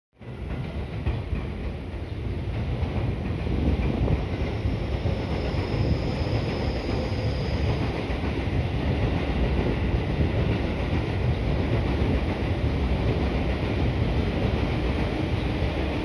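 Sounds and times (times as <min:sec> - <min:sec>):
train rumbling on tracks: 0:00.2 - 0:16.0.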